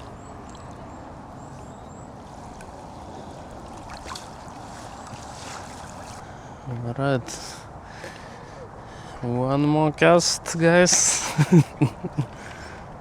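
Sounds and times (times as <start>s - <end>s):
water lapping at lake edge: 0.0s - 9.2s, 10.6s - 13.0s.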